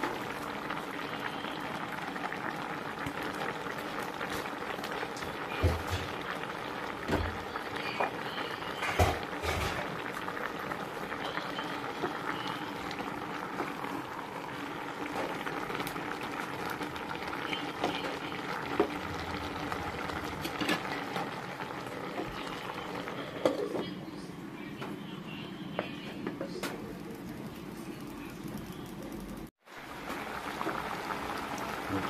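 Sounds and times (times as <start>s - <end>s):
pot of broth bubbling: 0.0s - 23.8s, 26.8s - 32.0s.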